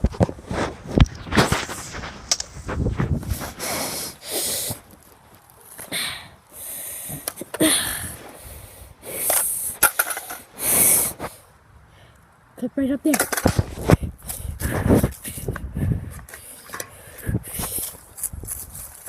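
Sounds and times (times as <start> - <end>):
rustling: 0.0 - 11.5, 13.2 - 19.0
noisy breaths: 0.4 - 5.1, 5.7 - 12.5, 13.7 - 19.0.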